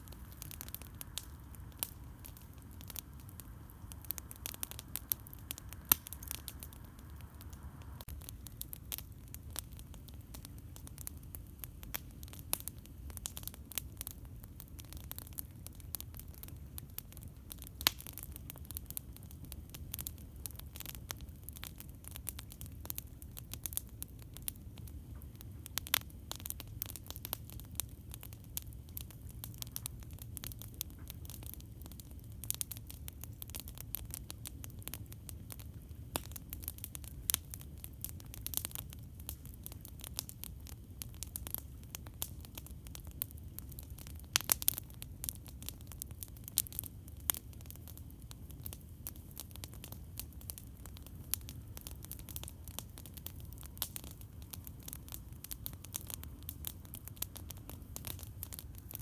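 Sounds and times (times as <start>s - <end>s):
campfire wood crackling: 0.0s - 59.0s
low rumble of fire: 0.0s - 59.0s.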